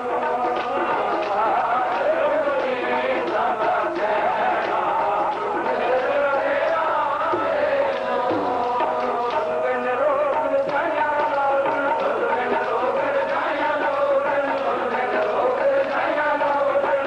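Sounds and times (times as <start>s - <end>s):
harmonium melody: 0.0s - 17.0s
men singing: 0.0s - 17.0s
tabla strikes: 0.0s - 17.0s.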